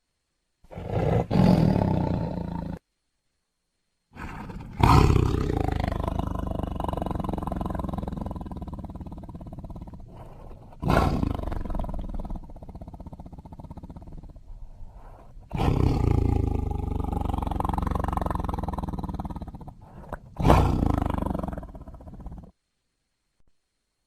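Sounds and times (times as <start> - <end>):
tiger roaring: 0.7 - 2.8, 4.1 - 22.5.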